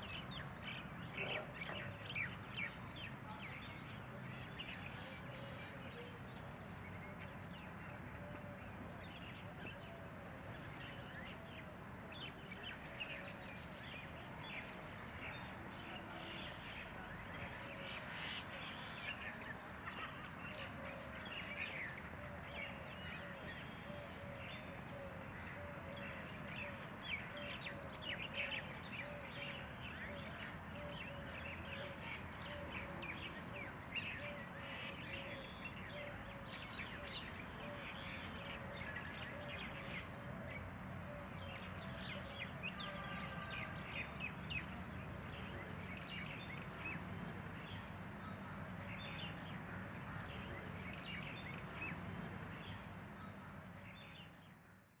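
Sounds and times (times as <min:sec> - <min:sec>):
birds chirping and singing: 0:00.0 - 0:54.9.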